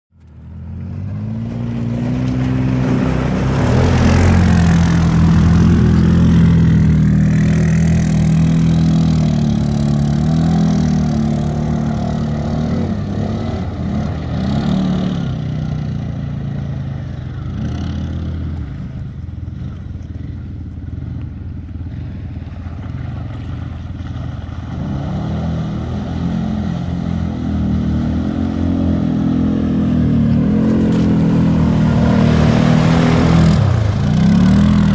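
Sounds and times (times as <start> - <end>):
quad engine revving: 0.6 - 19.9, 24.0 - 34.9.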